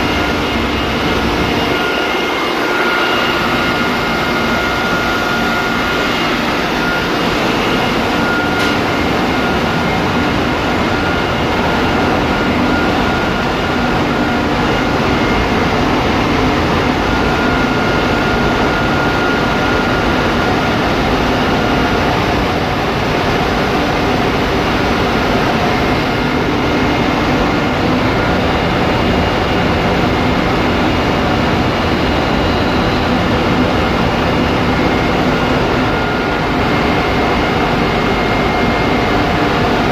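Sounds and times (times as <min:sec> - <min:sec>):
engine-room machinery din: 0:00.0 - 0:39.9
thin whining tones: 0:00.0 - 0:39.9.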